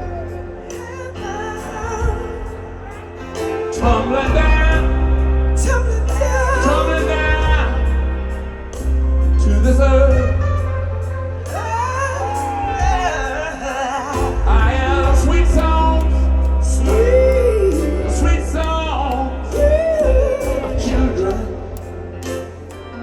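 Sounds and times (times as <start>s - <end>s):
live rock band: 0.0s - 23.0s
steady bass: 0.0s - 23.0s.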